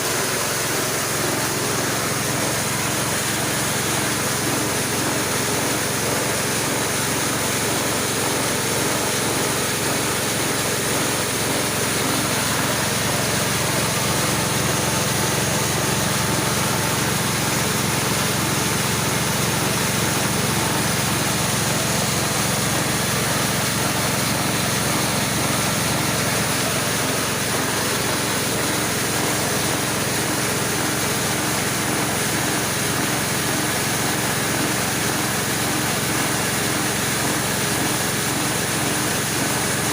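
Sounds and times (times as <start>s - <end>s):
grinding mill engine running: 0.0s - 39.9s.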